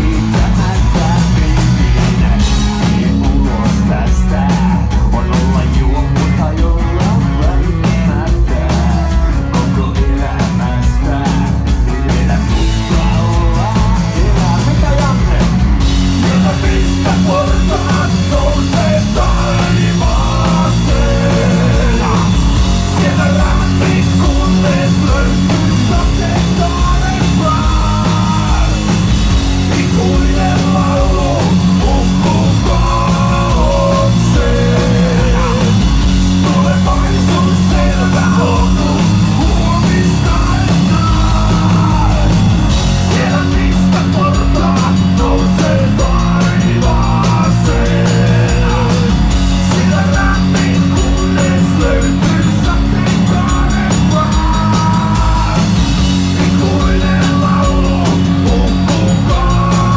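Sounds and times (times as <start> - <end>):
distorted electric guitars: 0.0 - 59.9
pounding drum kit: 0.0 - 59.9.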